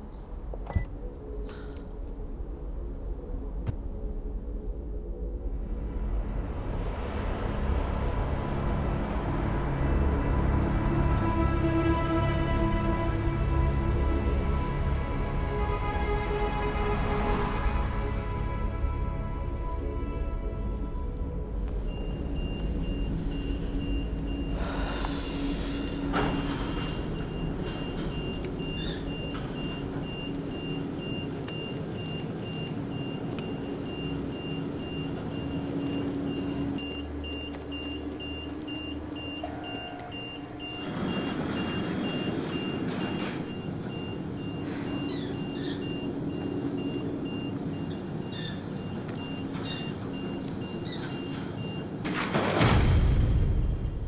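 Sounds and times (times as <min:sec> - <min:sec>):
low mechanical drone: 0:00.0 - 0:54.0.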